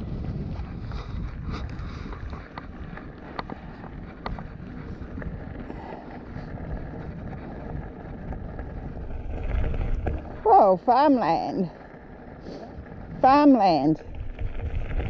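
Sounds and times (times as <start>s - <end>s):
wind noise on microphone: 0.0s - 15.0s
stones ticking: 1.6s - 10.6s, 11.2s - 15.0s
tyres rolling over gravel: 1.6s - 15.0s.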